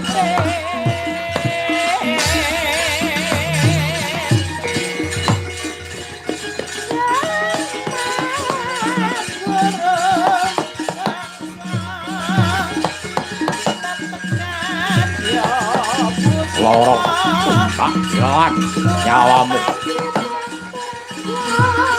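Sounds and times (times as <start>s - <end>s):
wavering melody with vibrato: 0.0s - 21.9s.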